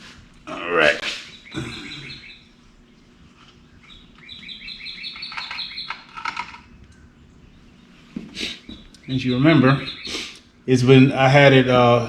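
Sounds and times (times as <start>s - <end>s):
bird chirping rapidly: 1.0s - 11.7s.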